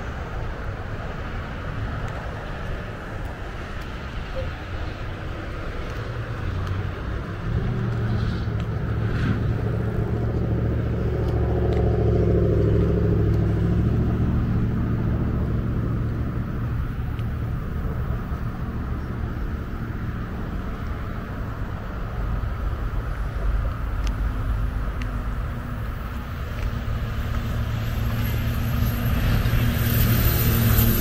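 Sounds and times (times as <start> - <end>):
motor vehicle passing: 2.2 - 31.0.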